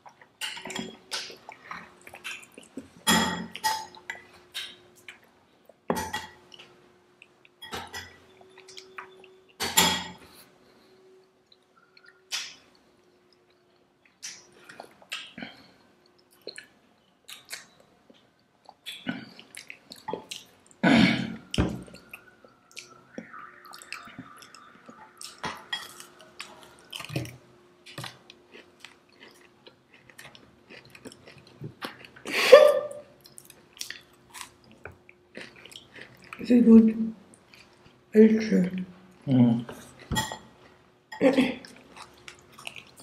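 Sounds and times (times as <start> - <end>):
close chewing and mouth sounds: 0.0 - 20.8, 21.4 - 43.0
faint steady hum: 0.0 - 43.0.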